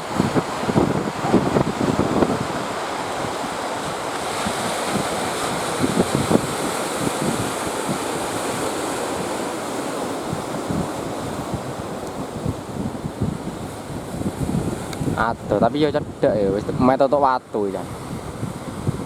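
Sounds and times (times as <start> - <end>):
sea surf breaking: 0.0 - 19.0
wind buffeting microphone: 0.0 - 19.0.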